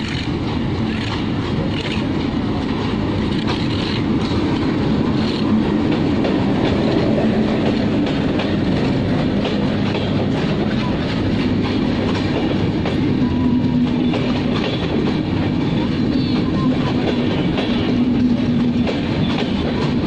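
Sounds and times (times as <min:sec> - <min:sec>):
locomotive engine drone: 0:00.0 - 0:20.0
wheels clicking over rail joints: 0:00.0 - 0:20.0.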